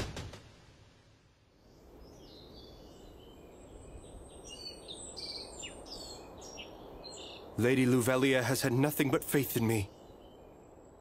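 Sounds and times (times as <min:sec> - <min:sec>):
small birds chirping: 0:01.5 - 0:11.0.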